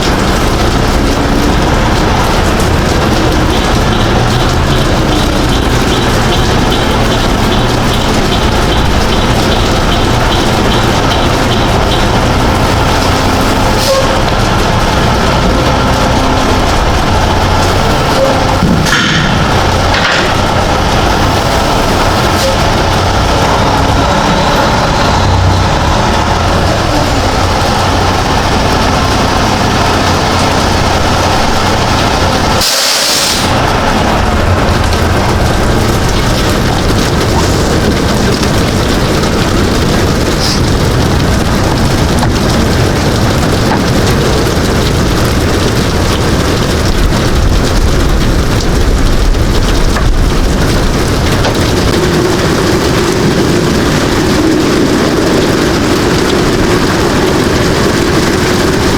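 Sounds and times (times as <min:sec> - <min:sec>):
truck engine and road noise: 0:00.0 - 0:58.9.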